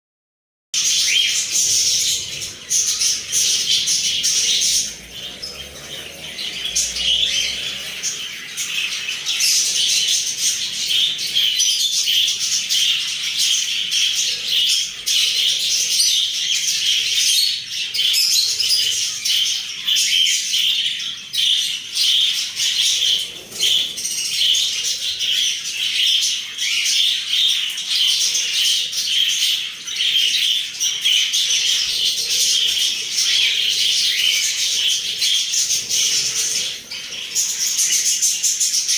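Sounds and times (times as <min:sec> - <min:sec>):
caged birds chirping and squawking: 0:00.8 - 0:38.9.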